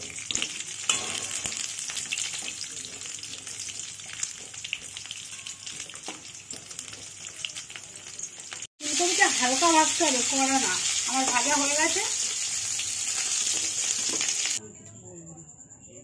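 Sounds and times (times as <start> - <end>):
potatoes sizzling in oil: 0.0 - 14.6.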